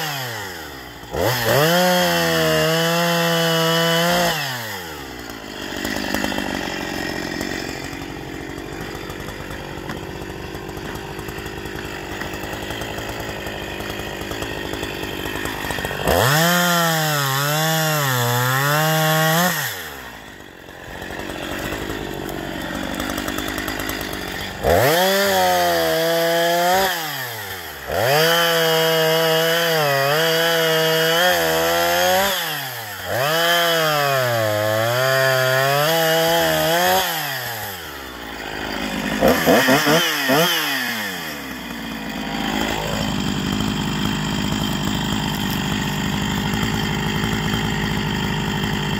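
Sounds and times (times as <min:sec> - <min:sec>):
chainsaw idling and revving: 0:00.0 - 0:48.9.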